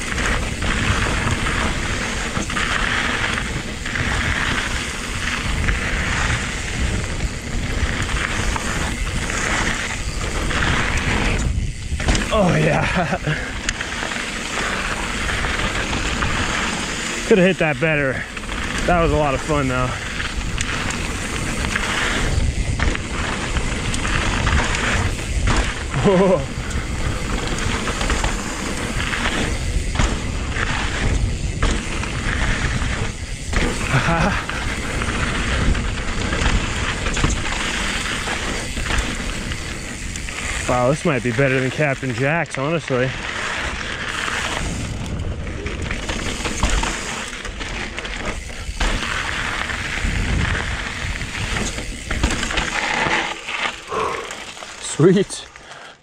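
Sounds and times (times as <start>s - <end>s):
wind buffeting microphone: 0.0s - 42.1s, 43.0s - 52.8s
bike rattling over bumps: 0.0s - 56.0s
tyres crunching over gravel: 0.0s - 56.0s.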